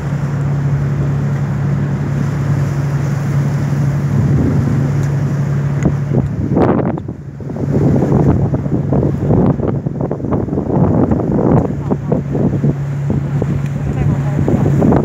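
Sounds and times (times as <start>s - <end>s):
boat engine humming: 0.0s - 15.0s
wind and water rushing: 0.0s - 15.0s.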